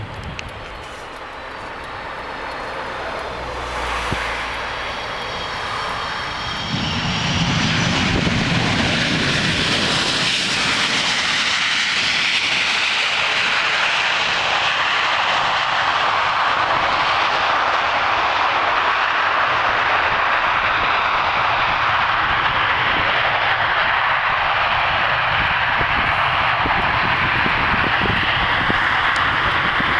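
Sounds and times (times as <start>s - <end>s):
jet reverse thrust roar: 0.0s - 18.8s, 22.9s - 29.9s
jet engines whining: 0.0s - 29.9s.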